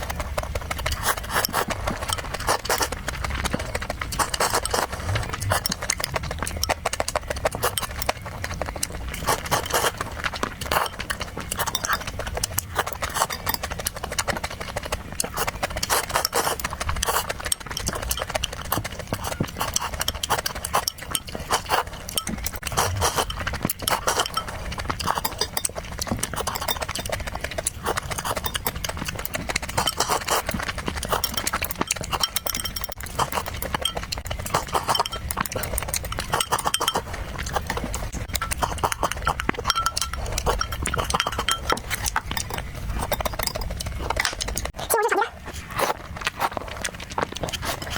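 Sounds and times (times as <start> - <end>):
chewing and mouth smacking: 0.0 - 47.9.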